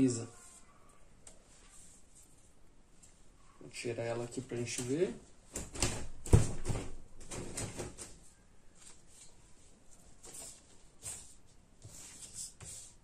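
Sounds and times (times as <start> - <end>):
cloth and paper rustling: 0.3 - 3.4, 4.5 - 13.0.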